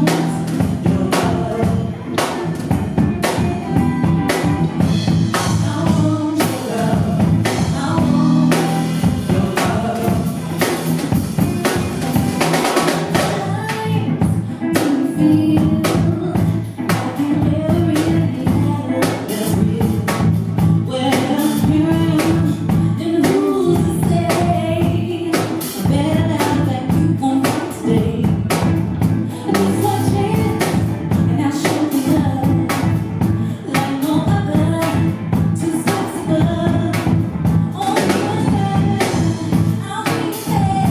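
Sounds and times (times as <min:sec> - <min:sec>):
person singing: 0:00.0 - 0:10.9, 0:13.1 - 0:40.9
band playing: 0:00.0 - 0:40.9
drum kit beat: 0:00.0 - 0:40.9.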